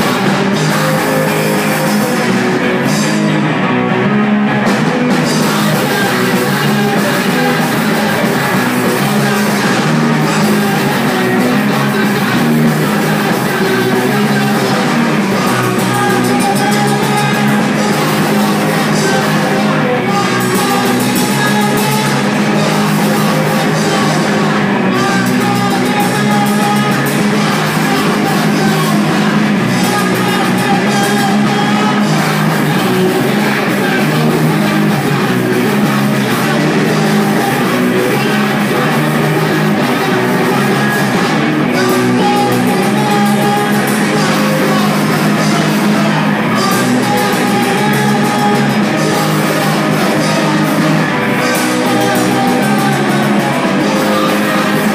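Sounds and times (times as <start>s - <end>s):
rock music with singing: 0.0s - 54.9s.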